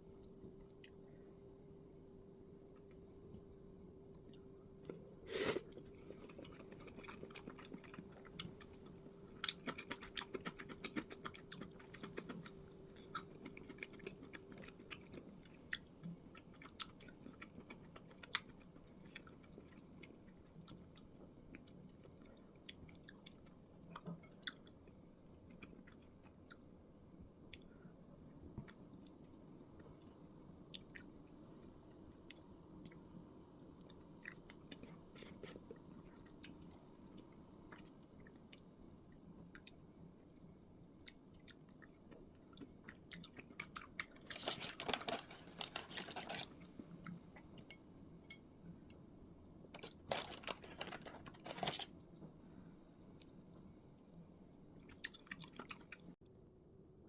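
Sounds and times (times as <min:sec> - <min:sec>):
faint steady hum: 0:00.0 - 0:57.0
person chewing food: 0:04.1 - 0:26.8, 0:28.6 - 0:40.3, 0:41.0 - 0:49.0, 0:49.8 - 0:54.1, 0:54.8 - 0:56.2.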